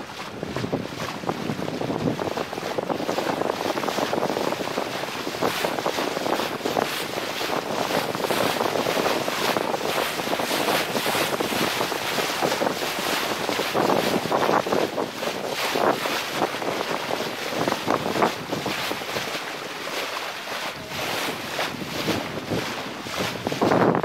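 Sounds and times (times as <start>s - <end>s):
water rushing along boat hull: 0.0s - 24.0s
wind buffeting microphone: 0.0s - 24.0s.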